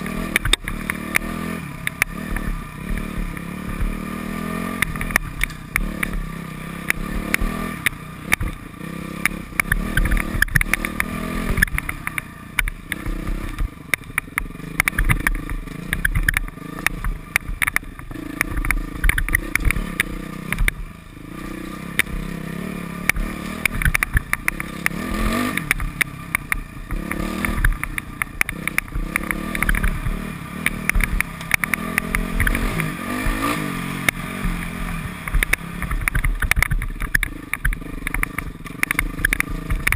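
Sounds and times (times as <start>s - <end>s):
sharp knocks and rattles: 0.0s - 22.4s, 23.0s - 39.9s
dirt bike engine revving: 0.0s - 39.9s.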